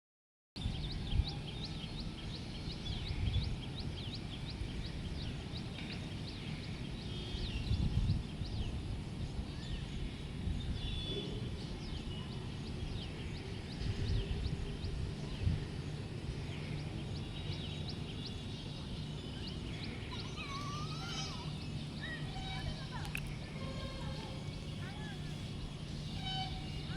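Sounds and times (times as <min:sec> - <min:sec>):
small birds chirping: 0:00.6 - 0:26.9
steady low rumble: 0:00.6 - 0:26.9.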